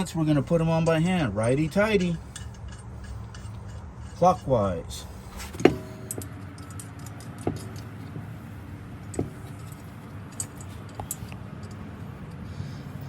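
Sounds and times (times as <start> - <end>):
metal clinking on metal: 0.0 - 4.8, 5.6 - 8.0, 9.0 - 12.4.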